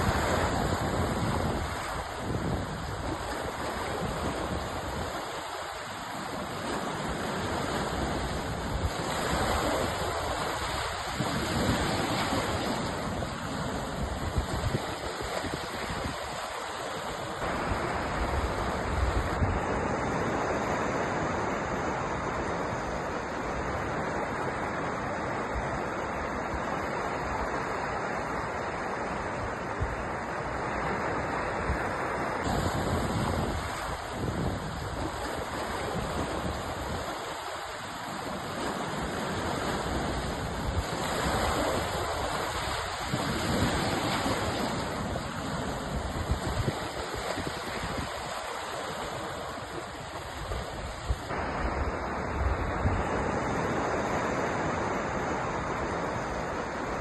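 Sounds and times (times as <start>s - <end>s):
sea waves breaking ashore: 0.0s - 57.0s.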